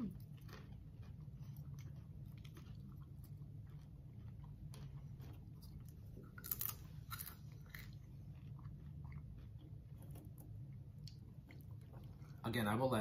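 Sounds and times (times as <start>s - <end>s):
person chewing popcorn: 0.0s - 13.0s.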